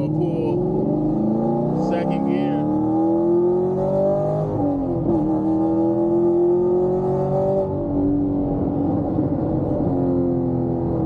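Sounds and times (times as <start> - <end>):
car exhaust under hard acceleration: 0.0 - 11.0.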